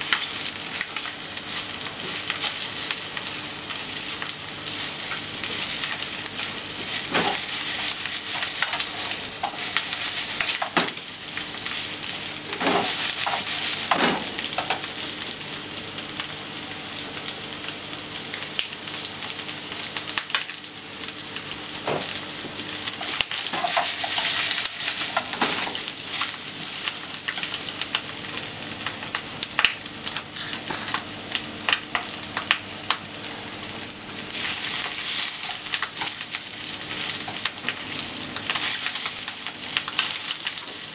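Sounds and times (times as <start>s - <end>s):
chicken sizzling in frying pan: 0.0s - 40.9s.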